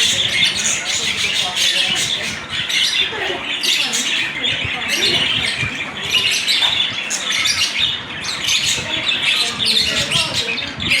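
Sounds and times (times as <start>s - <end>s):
small parrots chirping and squawking: 0.0s - 11.0s.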